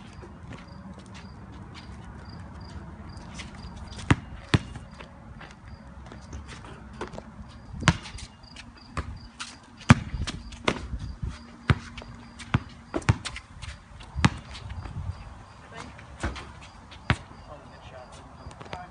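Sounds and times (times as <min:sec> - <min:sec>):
basketball bouncing on concrete: 0:02.2 - 0:15.1, 0:15.8 - 0:17.5, 0:18.4 - 0:18.9.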